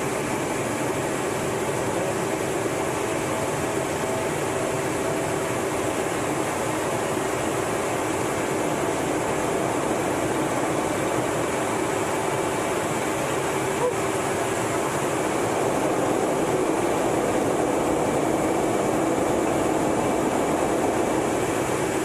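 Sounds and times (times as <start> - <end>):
cockpit air and engine noise: 0.0 - 22.0
faint steady whines: 0.0 - 22.0.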